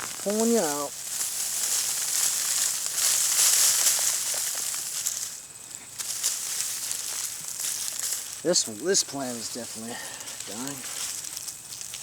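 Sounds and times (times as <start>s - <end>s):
dry foliage rustling and crackling: 0.0s - 12.0s.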